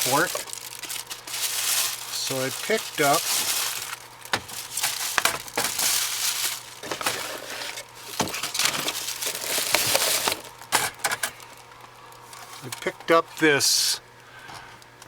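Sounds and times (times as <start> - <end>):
packaging crinkling and rustling: 0.0 - 13.2.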